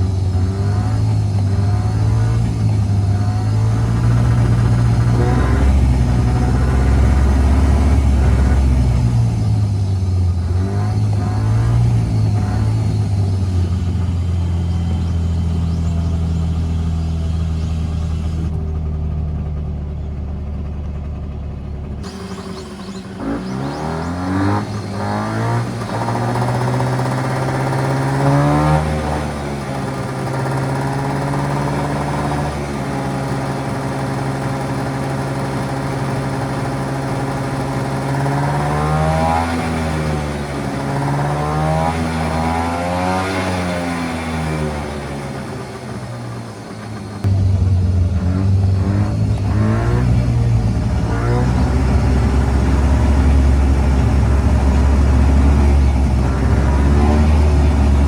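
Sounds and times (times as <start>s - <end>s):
small car engine revving: 0.0s - 20.1s, 21.9s - 58.0s.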